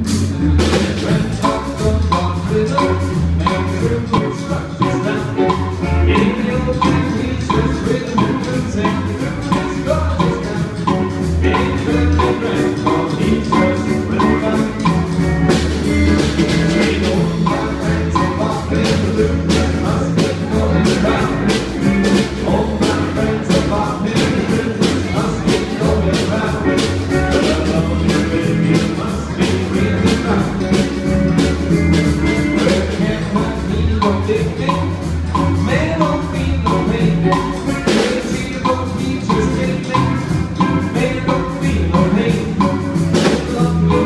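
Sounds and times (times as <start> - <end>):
drum beat: 0.0 - 44.0
live rock and roll band: 0.0 - 44.0.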